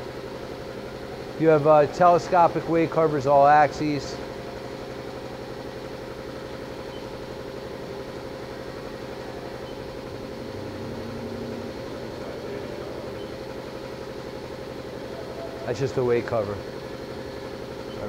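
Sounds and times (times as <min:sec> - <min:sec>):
air compressor pulsing: 0:00.0 - 0:18.0.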